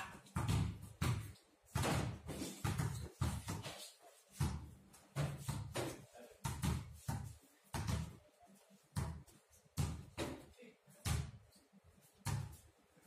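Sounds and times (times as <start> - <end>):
basketballs bouncing on concrete: 0.0 - 8.2, 8.9 - 11.5, 12.2 - 12.6.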